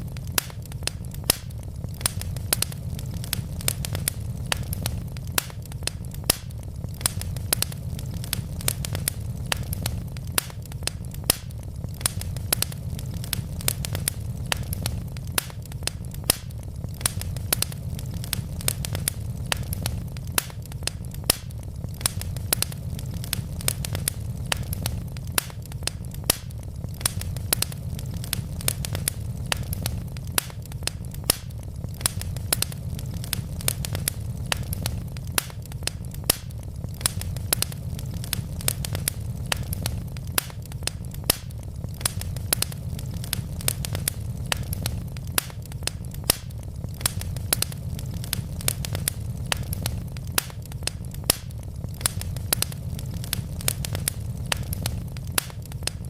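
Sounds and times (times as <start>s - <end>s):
burning logs crackling and popping: 0.0s - 56.0s
fire flames rumbling: 0.0s - 56.0s.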